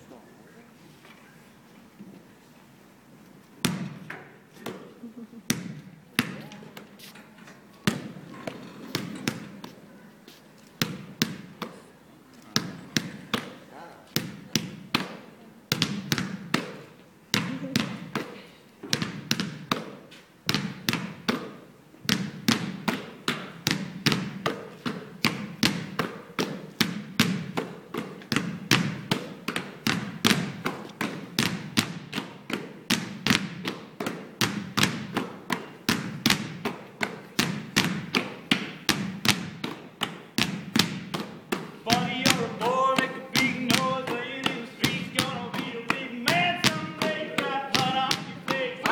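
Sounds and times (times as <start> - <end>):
basketballs bouncing on stage floor: 3.6 - 4.9, 5.5 - 6.9, 7.8 - 9.8, 10.8 - 11.8, 12.4 - 48.9.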